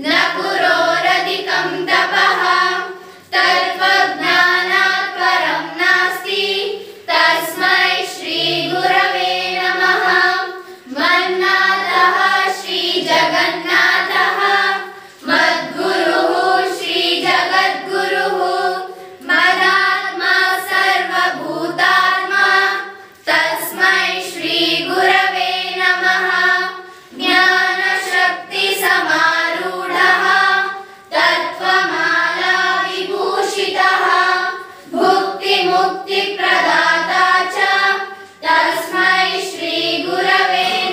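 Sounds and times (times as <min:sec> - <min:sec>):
children singing a hymn in unison: 0:00.0 - 0:40.9.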